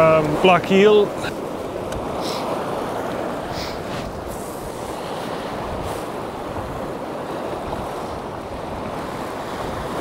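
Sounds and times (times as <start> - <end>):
waves washing onto rocks: 0.0 - 10.0
wind buffeting microphone: 0.0 - 10.0.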